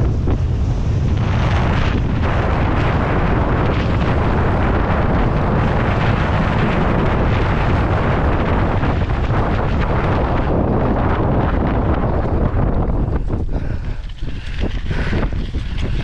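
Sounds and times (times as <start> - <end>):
bike tyres rolling over gravel: 0.0 - 16.0
wind buffeting microphone: 0.0 - 16.0.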